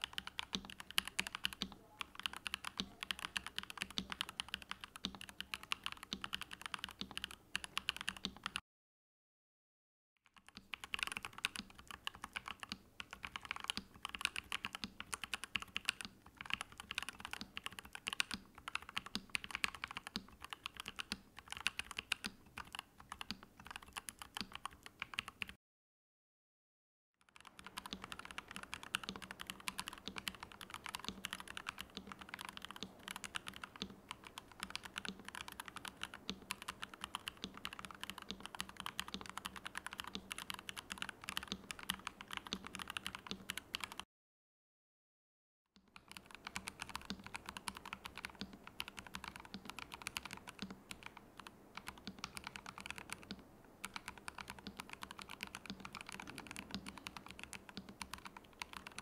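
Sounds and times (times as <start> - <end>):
mechanical keyboard typing: 0.0 - 8.6, 10.4 - 25.6, 27.3 - 44.0, 45.9 - 59.0.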